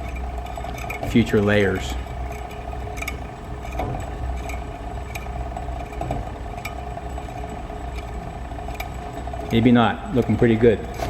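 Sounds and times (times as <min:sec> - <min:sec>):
wire spooling machine humming: 0:00.0 - 0:11.0.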